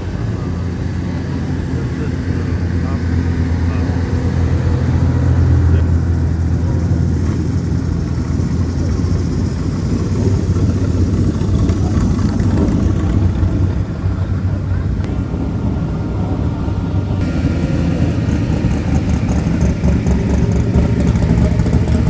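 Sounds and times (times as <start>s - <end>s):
old car driving past: 0.0s - 22.0s.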